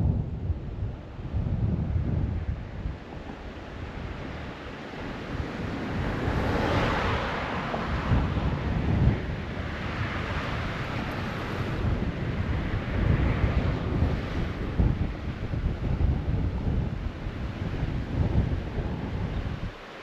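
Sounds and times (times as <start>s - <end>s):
gusty wind on microphone: 0.0s - 20.0s.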